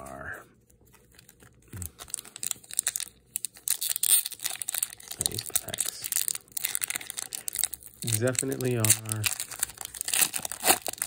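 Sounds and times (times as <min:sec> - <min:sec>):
foil wrapper tearing and crinkling: 0:00.9 - 0:11.0.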